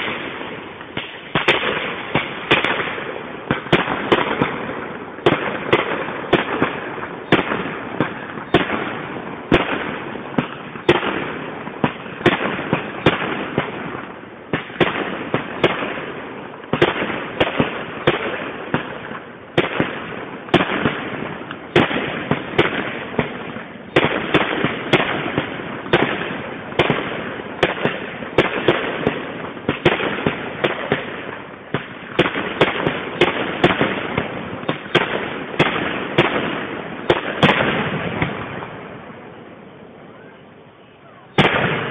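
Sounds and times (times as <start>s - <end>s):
firework shells bursting: 0.0s - 38.8s.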